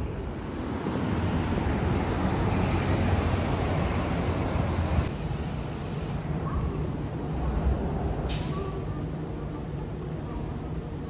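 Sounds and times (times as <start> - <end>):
road traffic rumbling: 0.0 - 11.0.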